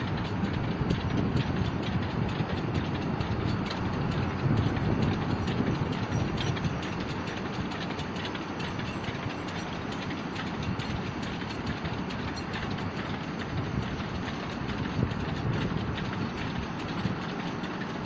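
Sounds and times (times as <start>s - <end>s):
train wagons rumbling and rattling: 0.0s - 18.0s
wheels clattering over rails: 0.0s - 18.0s.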